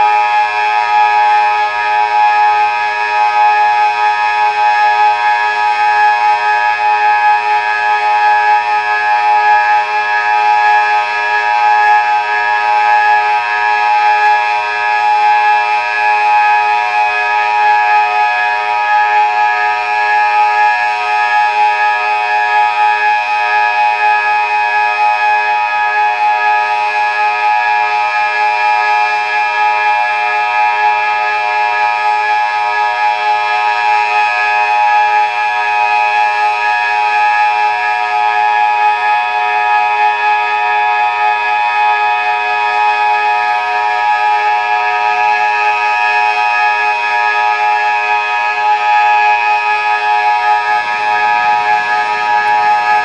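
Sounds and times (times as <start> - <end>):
siren steady tone: 0.0 - 53.0.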